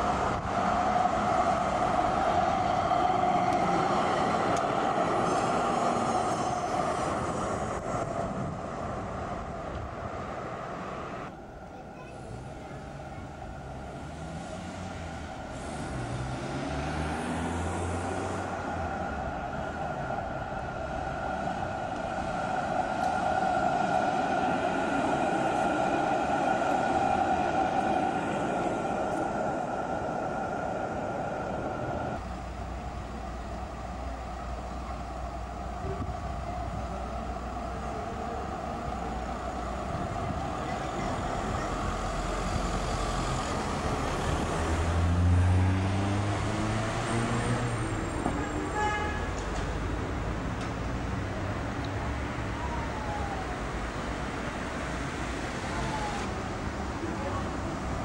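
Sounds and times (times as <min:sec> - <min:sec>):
electric tram passing: 0:00.0 - 0:58.0
street traffic: 0:00.0 - 0:58.0.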